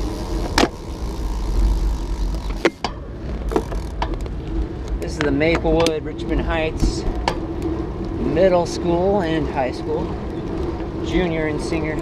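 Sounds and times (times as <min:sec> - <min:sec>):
bicycle clicks and knocks: 0:00.0 - 0:08.3, 0:09.7 - 0:12.0
wind and road rumble: 0:00.0 - 0:12.0.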